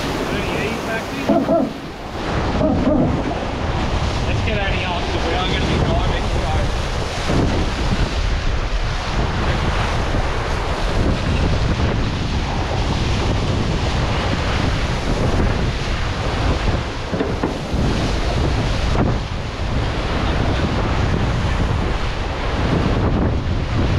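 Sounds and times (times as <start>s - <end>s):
water rushing past hulls: 0.0s - 23.9s
wind buffeting microphone: 0.0s - 23.9s.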